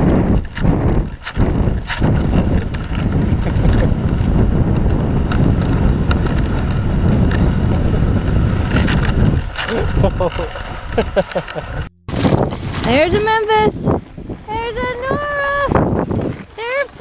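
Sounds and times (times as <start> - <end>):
sled runners scraping over snow: 0.0 - 17.0
wind noise on microphone: 0.0 - 17.0.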